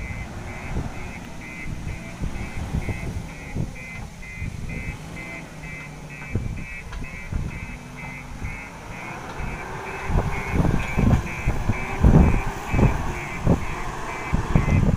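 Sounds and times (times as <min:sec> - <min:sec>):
diesel engine working: 0:00.0 - 0:14.9
reversing alarm beeping: 0:00.0 - 0:14.9.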